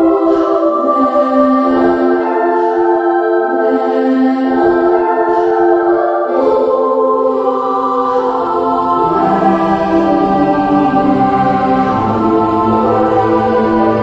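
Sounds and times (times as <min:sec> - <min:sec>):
choir singing slow chords: 0:00.0 - 0:14.0.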